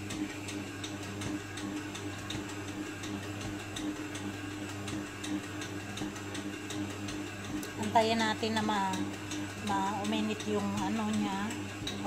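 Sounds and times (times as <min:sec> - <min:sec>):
electric mixer motor hum: 0:00.0 - 0:12.0.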